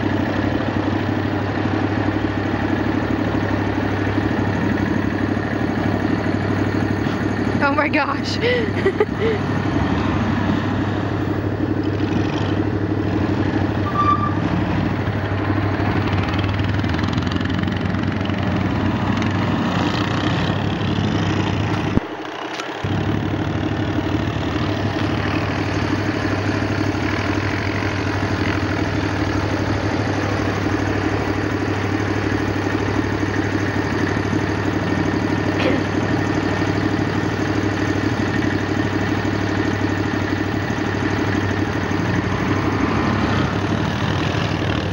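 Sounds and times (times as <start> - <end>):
off-road vehicle engines droning: 0.0 - 44.9.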